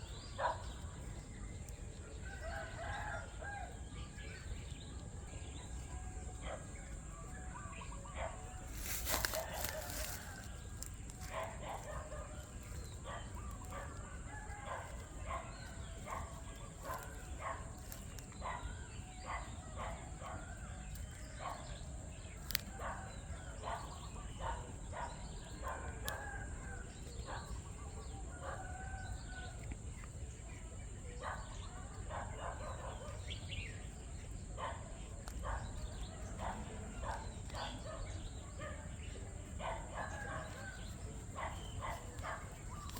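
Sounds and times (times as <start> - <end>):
birds calling: 0.0 - 29.5, 30.2 - 42.9.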